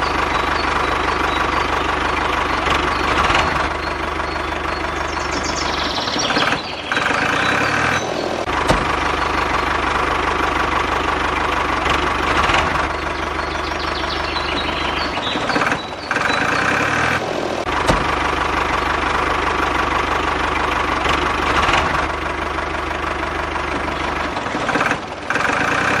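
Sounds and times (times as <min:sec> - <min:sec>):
tractor engine knocking: 0:00.0 - 0:26.0.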